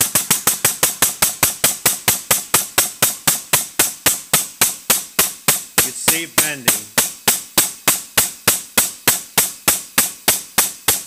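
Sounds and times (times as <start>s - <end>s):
hydraulic pump knocking strokes: 0.0s - 11.0s.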